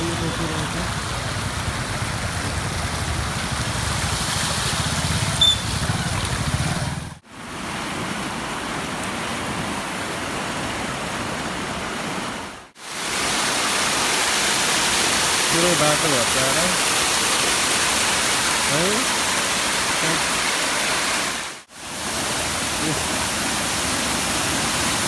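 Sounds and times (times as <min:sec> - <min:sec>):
floodwater rushing: 0:00.0 - 0:25.0.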